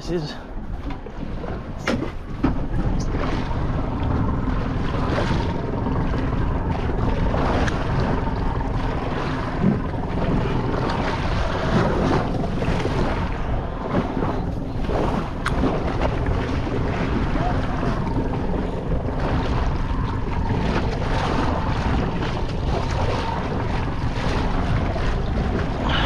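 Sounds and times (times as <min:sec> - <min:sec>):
water sloshing against boat hull: 0:00.0 - 0:26.0
wind buffeting microphone: 0:00.0 - 0:26.0.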